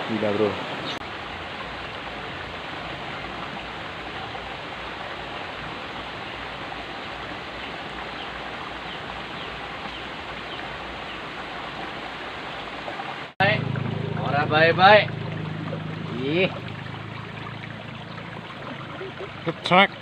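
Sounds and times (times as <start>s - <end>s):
water running along ditch: 0.0s - 20.0s.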